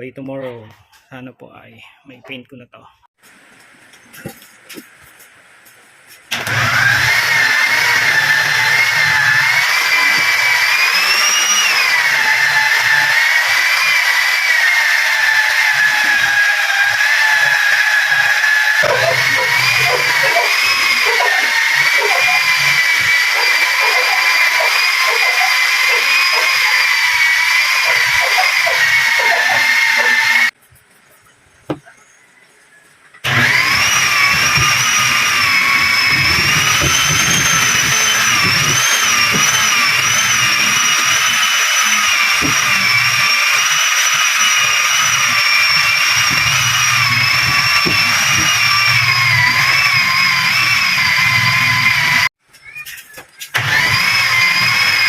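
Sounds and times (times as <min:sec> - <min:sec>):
power tool whining: 0:06.3 - 0:30.6, 0:33.2 - 0:52.4, 0:53.5 - 0:55.0.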